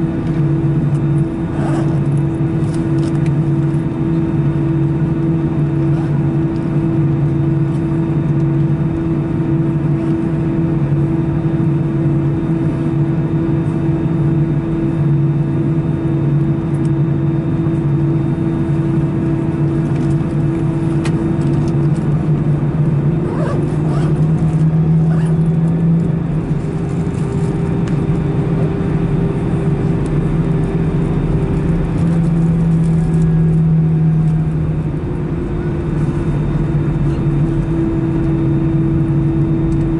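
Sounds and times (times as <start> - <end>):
jet engines taxiing hum: 0.0 - 39.9.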